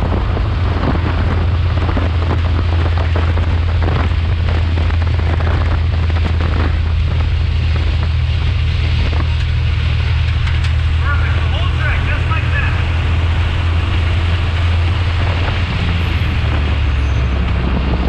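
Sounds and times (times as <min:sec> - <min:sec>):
race car engine running: 0:00.0 - 0:18.0
wind and road noise: 0:00.0 - 0:18.0.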